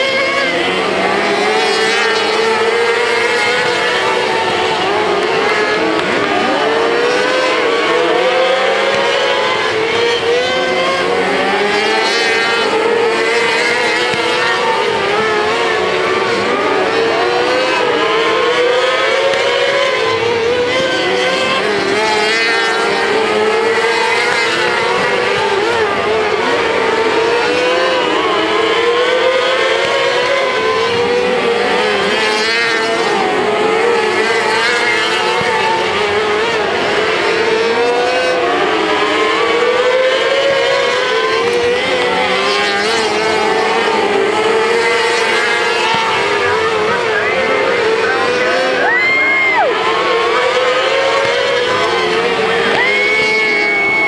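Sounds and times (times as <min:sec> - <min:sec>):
race car engines racing: 0:00.0 - 0:54.0.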